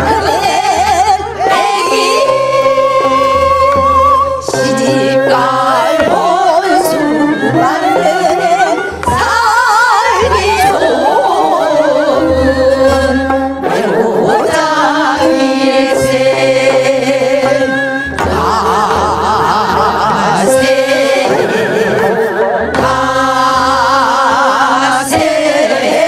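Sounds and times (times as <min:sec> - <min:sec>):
amplified instrumental accompaniment: 0:00.0 - 0:26.0
women singing folk song: 0:00.0 - 0:26.0.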